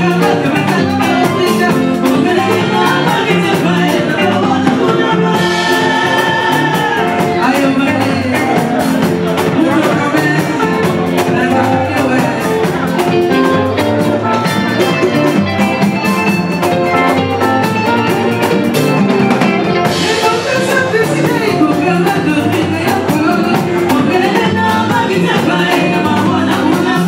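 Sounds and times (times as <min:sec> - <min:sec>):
woman singing: 0:00.0 - 0:18.8, 0:19.6 - 0:27.0
live rock band playing: 0:00.0 - 0:27.0.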